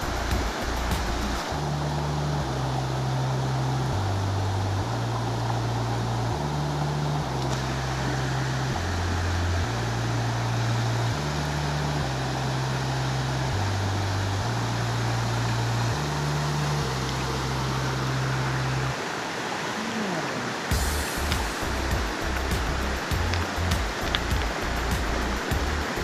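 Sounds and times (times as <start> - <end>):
low bass notes: 0.0 - 19.0, 20.7 - 26.0
river rushing over boulders: 0.0 - 26.0.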